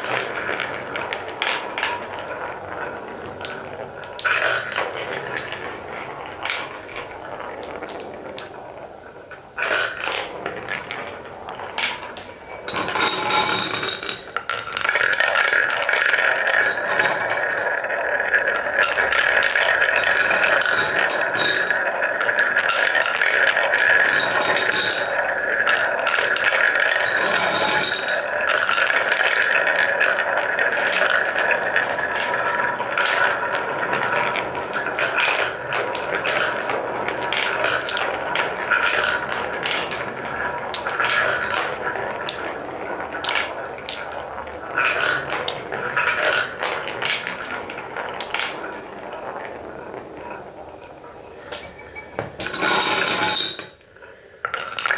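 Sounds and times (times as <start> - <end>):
balls circling in wooden bowl: 0.0 - 54.9
wooden balls rolling and clicking: 0.0 - 54.9.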